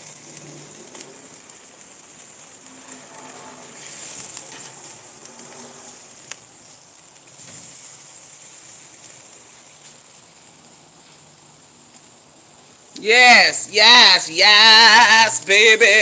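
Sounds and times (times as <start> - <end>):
food sizzling on grill: 0.0 - 16.0.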